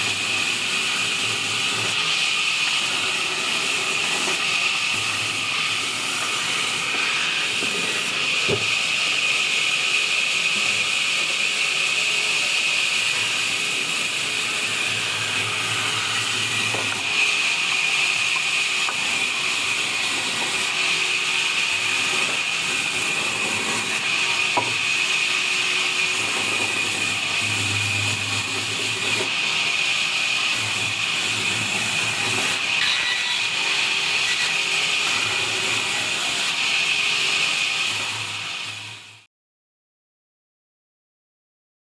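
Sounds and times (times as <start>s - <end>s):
band saw sawing logs: 0.0s - 38.8s.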